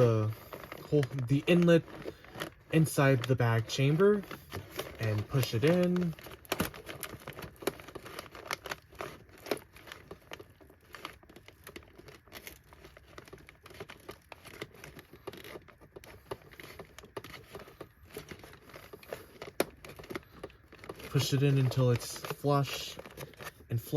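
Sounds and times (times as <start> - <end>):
plastic bag rustling and crinkling: 0.0 - 23.9.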